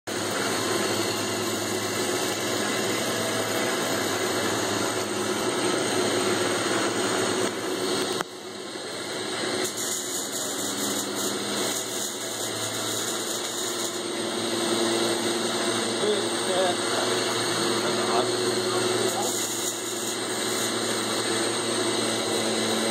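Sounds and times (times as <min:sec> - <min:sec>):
drill cutting metal: 0:00.1 - 0:22.9
lathe motor running: 0:00.1 - 0:22.9.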